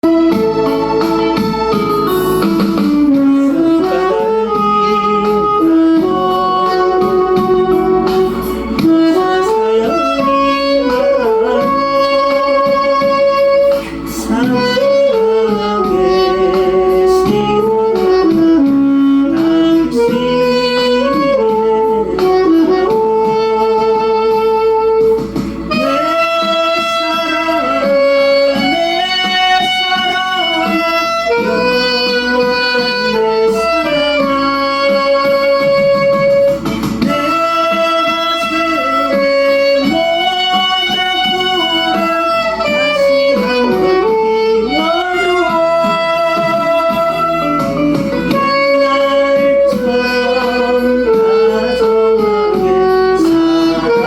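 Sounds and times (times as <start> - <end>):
backing track: 0.0 - 54.0
saxophone melody: 0.0 - 54.0.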